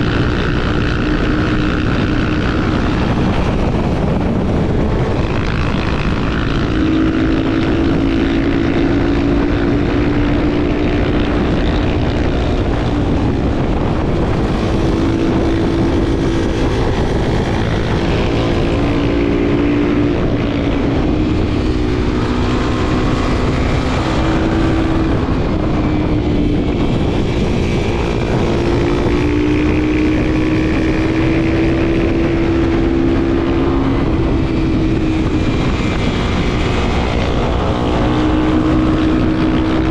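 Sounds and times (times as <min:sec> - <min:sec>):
dense rushing noise: 0:00.0 - 0:39.9
motorcycle engine running: 0:00.0 - 0:39.9.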